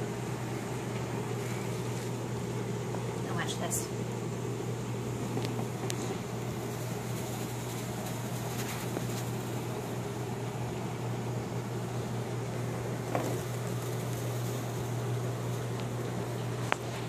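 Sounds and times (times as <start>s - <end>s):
low mechanical hum: 0.0s - 17.0s
soft hiss: 0.0s - 17.0s.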